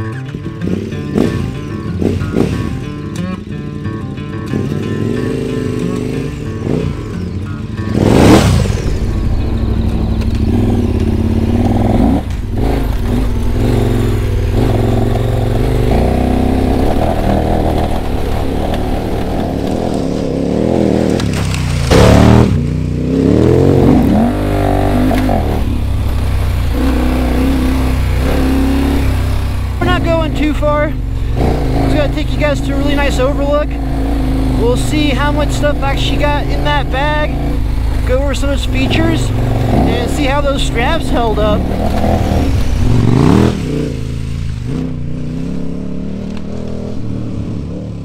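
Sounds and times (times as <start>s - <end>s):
motorcycle engine under load: 0.0s - 48.0s.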